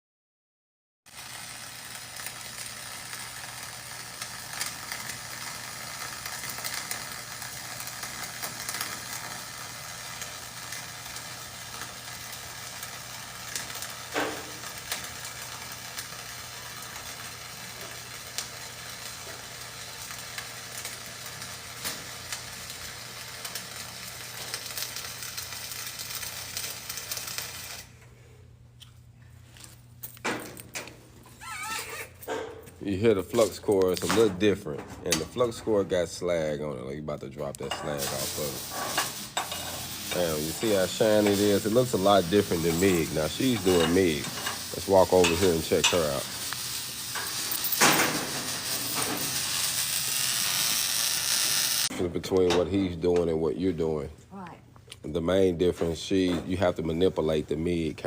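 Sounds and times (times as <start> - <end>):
arc welding crackling sizzle: 1.1 - 28.2, 28.8 - 58.0.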